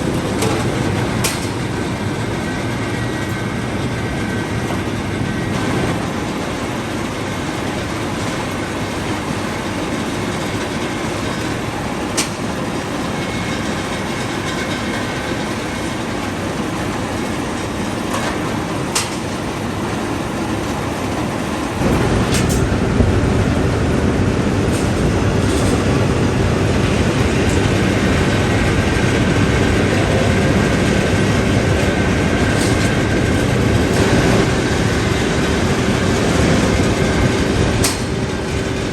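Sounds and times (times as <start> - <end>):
heavy machinery running: 0.0 - 38.9.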